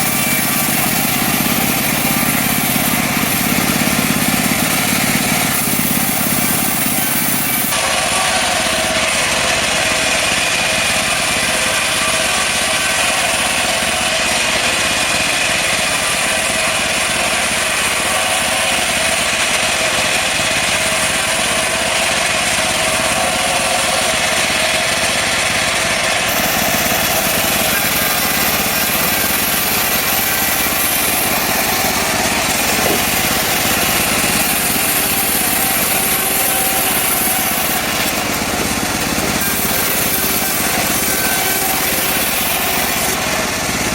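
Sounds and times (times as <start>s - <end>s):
band sawmill sawing log: 0.0s - 43.9s.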